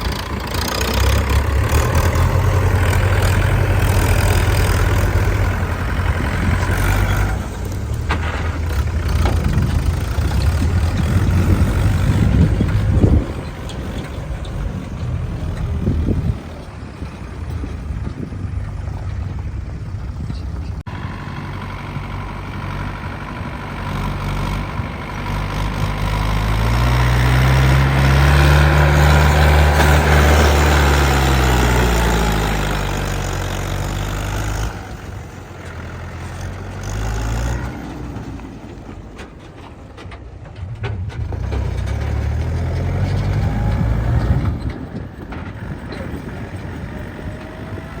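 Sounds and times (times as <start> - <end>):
diesel engine revving under load: 0.0 - 48.0.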